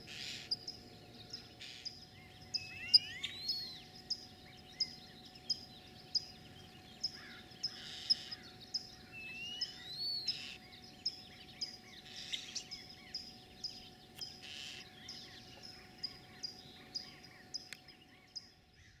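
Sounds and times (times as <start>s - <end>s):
small bird chirping: 0.0s - 19.0s
rising bird whistle: 1.4s - 6.4s, 7.0s - 17.7s.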